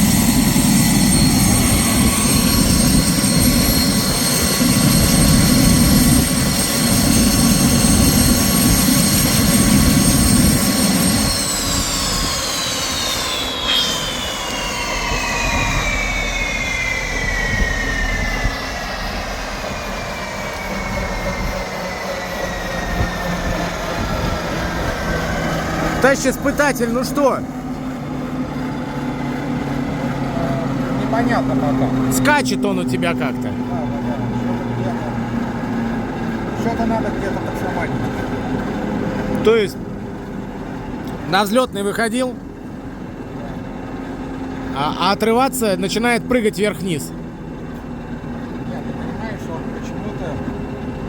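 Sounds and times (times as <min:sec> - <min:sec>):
helicopter rotor and engine rumble: 0:00.0 - 0:51.0
turbine engine whine: 0:00.0 - 0:51.0.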